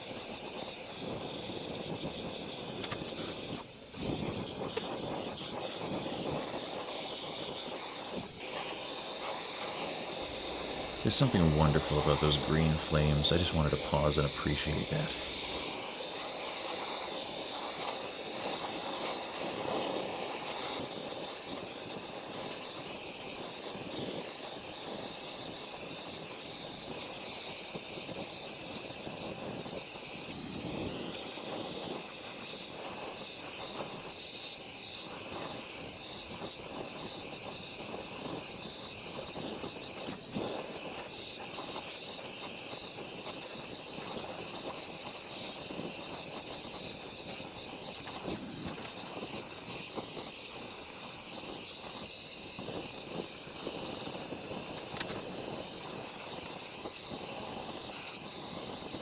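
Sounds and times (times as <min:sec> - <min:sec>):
gas torch flame hissing: 0:00.0 - 0:59.0.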